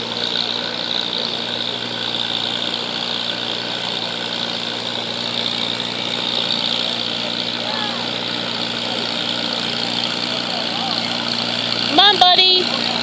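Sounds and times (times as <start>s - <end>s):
tractor engine running steadily: 0.0s - 13.0s.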